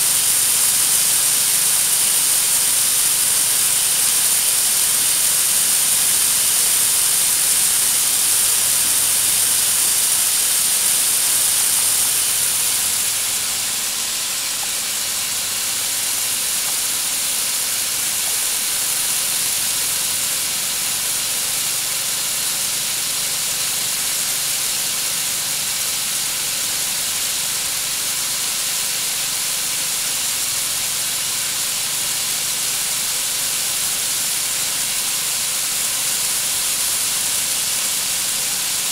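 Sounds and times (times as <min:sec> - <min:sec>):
nozzles spraying water mist: 0:00.0 - 0:38.9.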